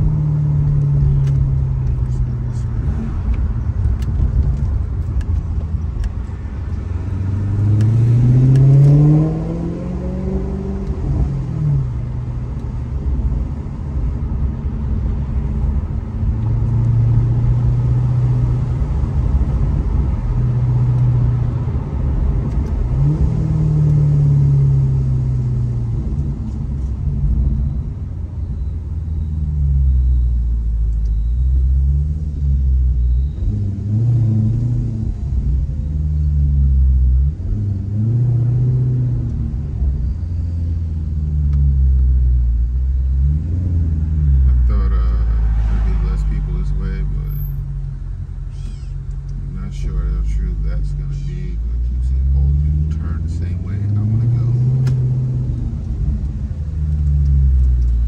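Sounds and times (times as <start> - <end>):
car engine revving: 0.0 - 28.2, 28.8 - 58.0
low road rumble: 0.0 - 58.0.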